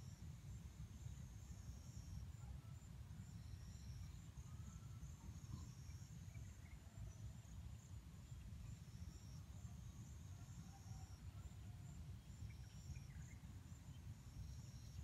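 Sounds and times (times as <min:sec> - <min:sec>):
high-pitched insect trills: 0:00.0 - 0:15.0.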